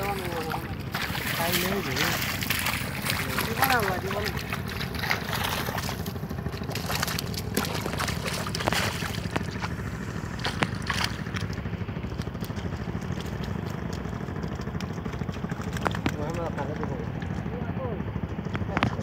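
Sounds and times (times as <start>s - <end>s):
clicks and knocks from fish: 0.0s - 17.5s, 18.2s - 19.0s
low rumble: 0.0s - 19.0s
water sloshing: 0.0s - 19.0s.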